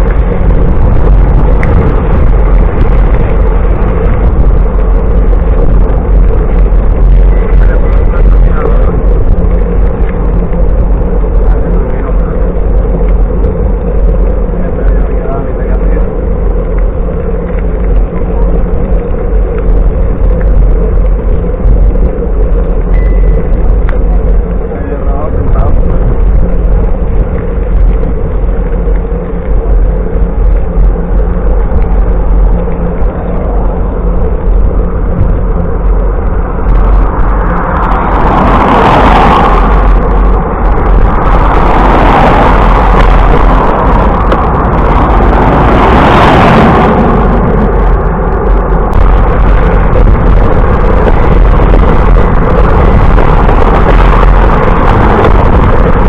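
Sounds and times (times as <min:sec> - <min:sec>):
wind rumbling on microphone: 0:00.0 - 0:56.0.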